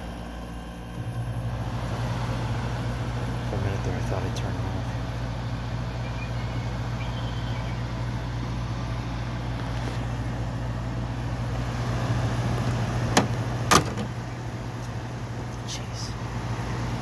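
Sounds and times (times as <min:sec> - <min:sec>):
air conditioner fan rushing: 0:00.0 - 0:17.0
air conditioner running: 0:00.0 - 0:17.0.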